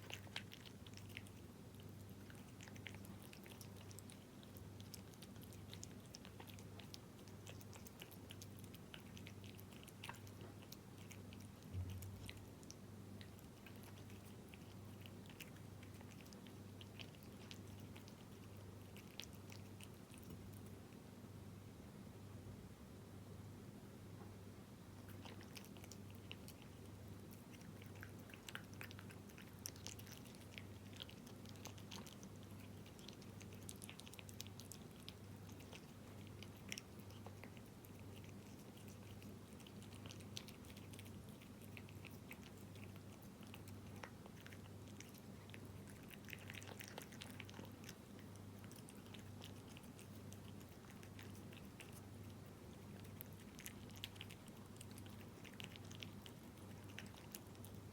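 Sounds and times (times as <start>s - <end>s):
cat chewing wet food: 0.0s - 21.2s, 24.8s - 57.9s
faint steady hum: 0.0s - 57.9s.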